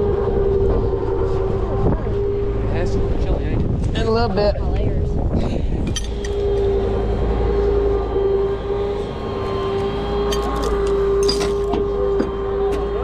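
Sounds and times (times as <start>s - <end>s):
truck engine whining: 0.0s - 13.0s.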